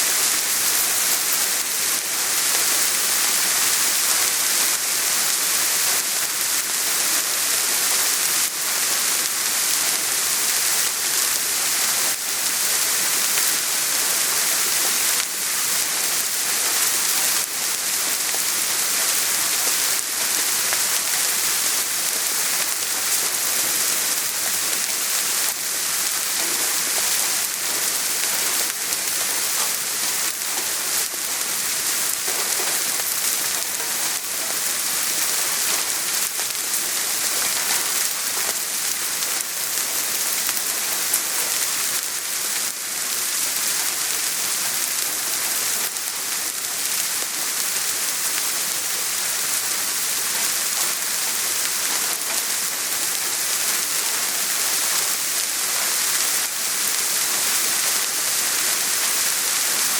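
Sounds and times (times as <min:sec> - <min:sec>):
soft rain pattering: 0:00.0 - 0:59.9.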